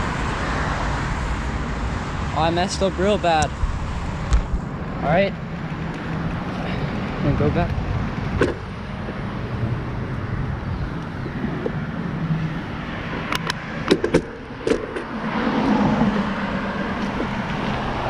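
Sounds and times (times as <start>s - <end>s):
motor vehicle rumble: 0.0s - 18.0s.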